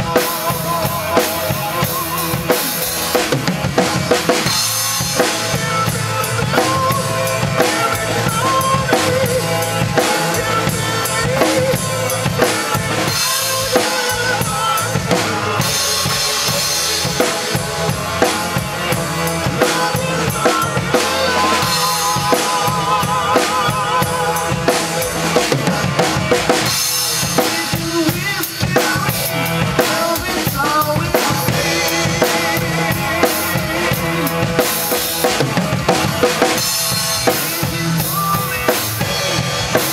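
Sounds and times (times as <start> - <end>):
acoustic drum kit: 0.0 - 39.9
recorded song: 0.0 - 39.9.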